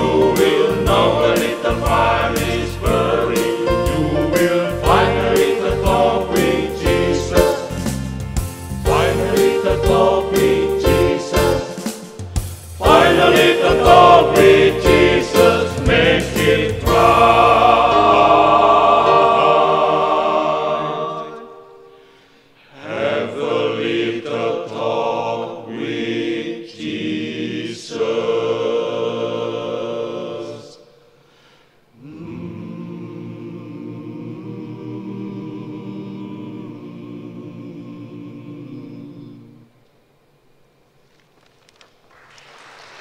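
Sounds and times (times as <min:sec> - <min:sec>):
gospel choir with accompaniment: 0:00.0 - 0:39.8.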